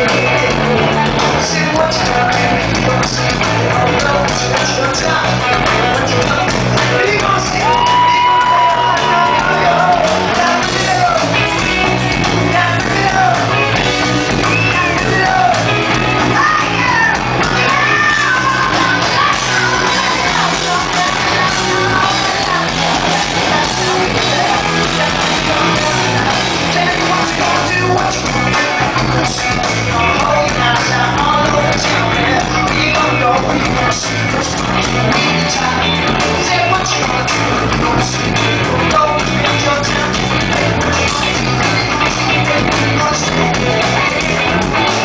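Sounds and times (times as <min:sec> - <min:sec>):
person singing: 0:00.0 - 0:45.0
rock band playing live: 0:00.0 - 0:45.0.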